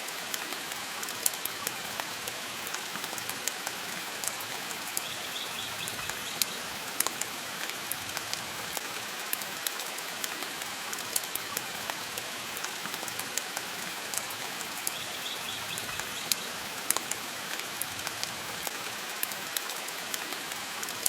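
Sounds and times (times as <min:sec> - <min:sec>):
rain hiss: 0:00.0 - 0:21.0.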